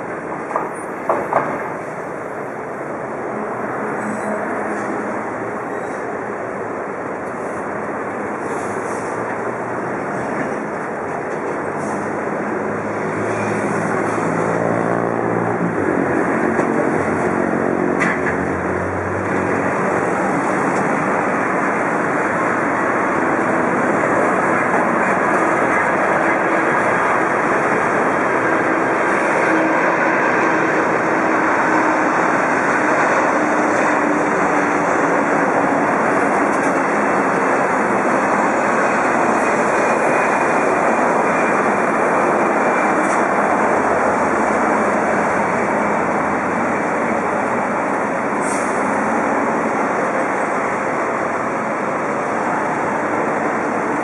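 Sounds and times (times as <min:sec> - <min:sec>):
jet airliner noise: 0:00.0 - 0:54.0.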